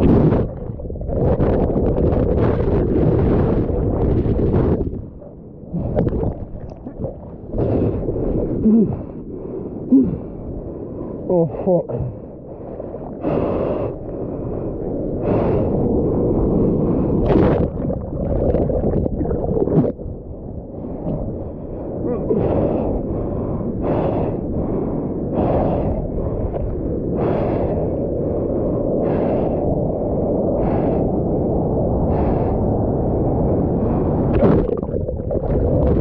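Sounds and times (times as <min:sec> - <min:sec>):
waves washing over camera: 0:00.0 - 0:11.2, 0:12.0 - 0:31.2, 0:32.0 - 0:36.0.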